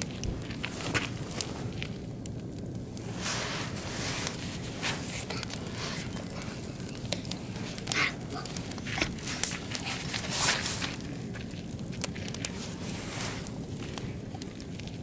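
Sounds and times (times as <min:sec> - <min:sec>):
hissing flares: 0:00.0 - 0:14.6
firewood crackling and popping: 0:00.0 - 0:15.0
low rush of flames: 0:00.0 - 0:15.0.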